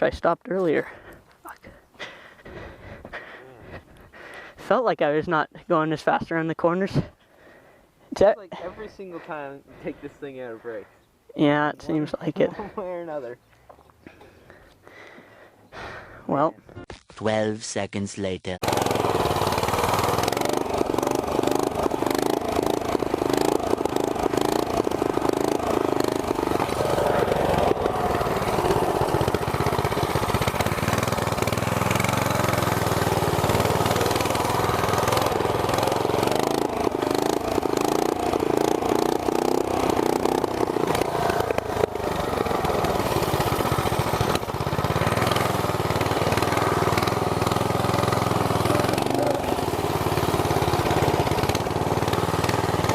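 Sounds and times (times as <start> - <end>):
small gas engine running: 0.7 - 4.7, 8.5 - 16.2, 18.6 - 52.9.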